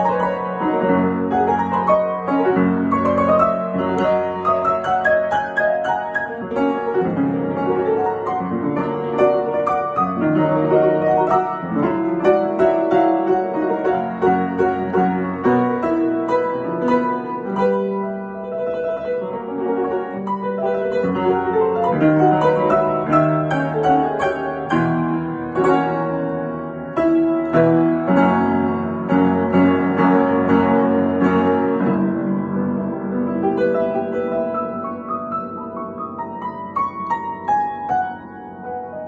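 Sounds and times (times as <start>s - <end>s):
fast acoustic piano improvisation: 0.0s - 39.0s.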